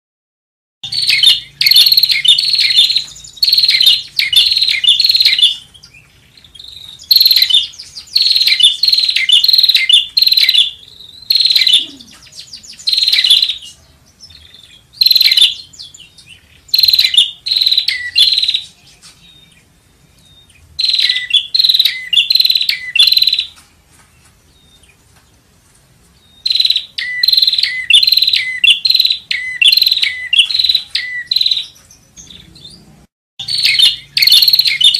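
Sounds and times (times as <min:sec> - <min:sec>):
bird chirping rapidly: 0:00.8 - 0:23.6, 0:26.1 - 0:34.9.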